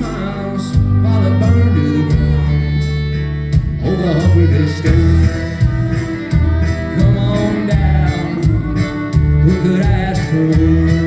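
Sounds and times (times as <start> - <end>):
acoustic guitar strumming: 0.0 - 11.0
bass notes: 0.0 - 11.0.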